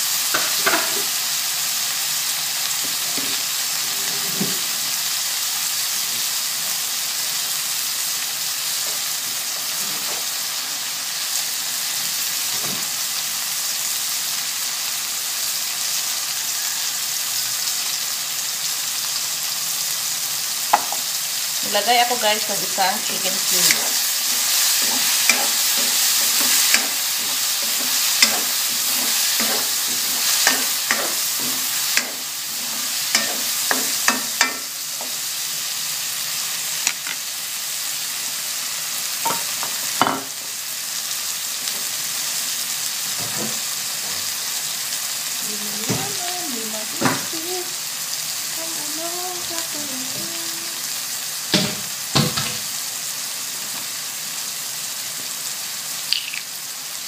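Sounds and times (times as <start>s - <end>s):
vegetables sizzling in a wok: 0.0s - 57.0s.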